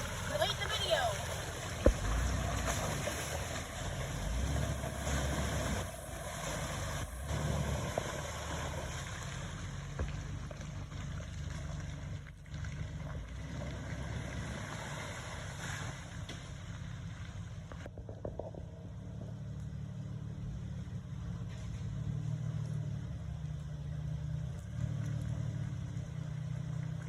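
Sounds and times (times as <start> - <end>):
engine running at low revs: 0.0 - 27.0.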